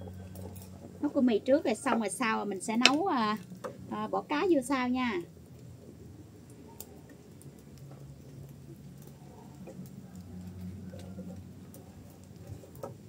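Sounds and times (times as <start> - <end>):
low steady hum: 0.0 - 13.0
wood fire crackling: 0.0 - 13.0.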